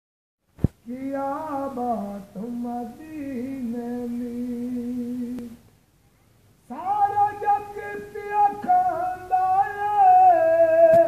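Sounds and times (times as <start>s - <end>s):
man singing unaccompanied: 0.8s - 5.7s, 6.6s - 11.0s.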